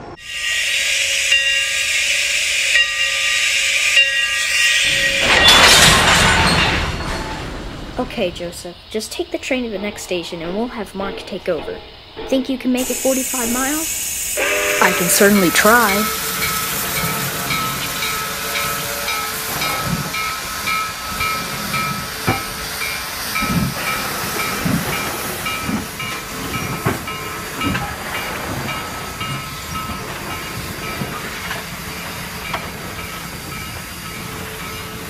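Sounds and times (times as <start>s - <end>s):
steam hissing: 0.1s - 35.0s
steam engine chuffing: 0.2s - 35.0s.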